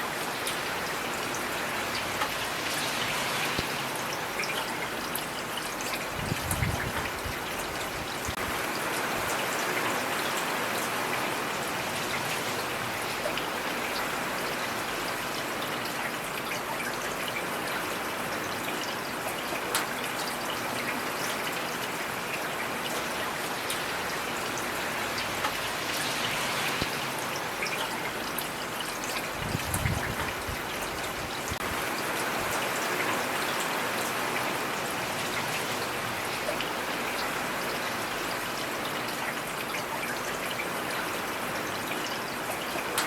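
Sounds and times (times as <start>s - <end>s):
heavy rain: 0.0s - 43.0s
raindrops ticking on surfaces: 0.1s - 43.0s.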